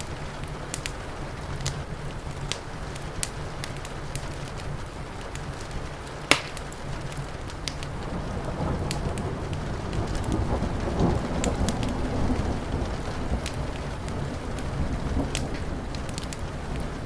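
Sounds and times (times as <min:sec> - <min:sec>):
loud snap of fire: 0:00.0 - 0:12.4, 0:13.4 - 0:17.0
low rumble of thunder: 0:00.0 - 0:17.0
steady rain: 0:00.0 - 0:17.0
wood fire crackling: 0:00.0 - 0:17.0.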